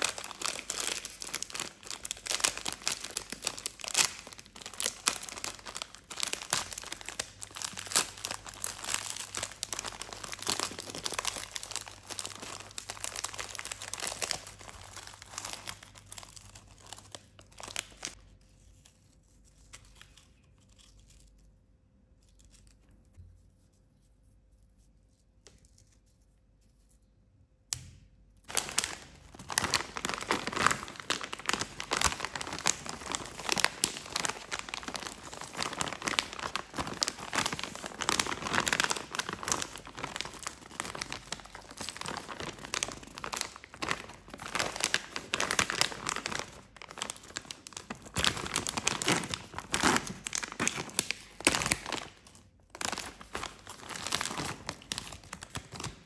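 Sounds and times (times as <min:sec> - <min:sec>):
plastic snack bag crinkling: 0:00.0 - 0:21.6, 0:28.5 - 0:56.0.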